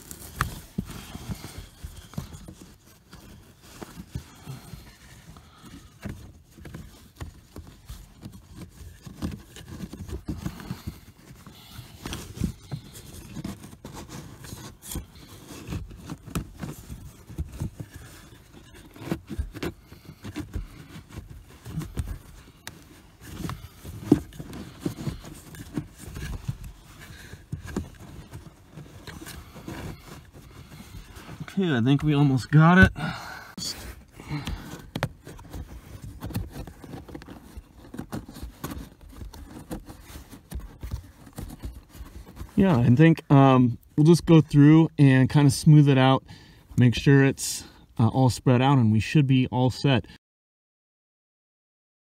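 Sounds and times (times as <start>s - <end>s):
scraping against plastic: 0.0s - 47.1s.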